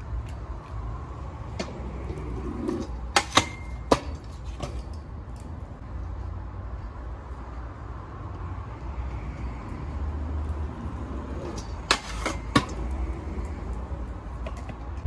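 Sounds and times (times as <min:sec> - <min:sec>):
scooter wheels rolling on asphalt: 0:00.0 - 0:15.0.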